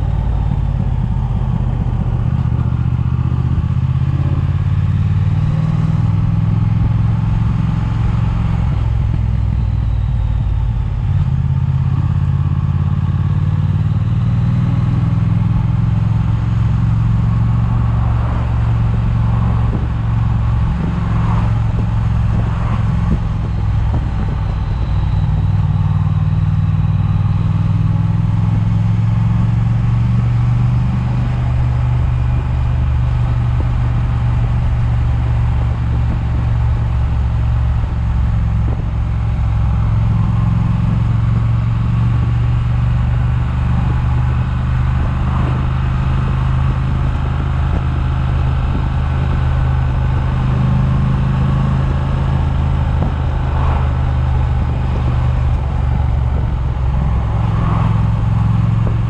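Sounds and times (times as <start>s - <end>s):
wind buffeting microphone: 0.0s - 7.0s, 14.0s - 59.0s
motorcycle engine cruising: 0.0s - 59.0s.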